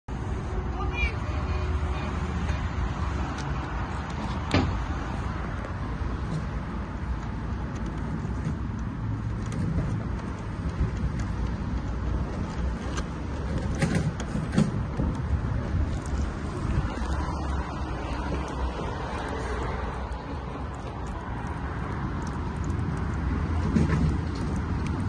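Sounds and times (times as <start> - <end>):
low outdoor rumble: 0.1 - 25.0.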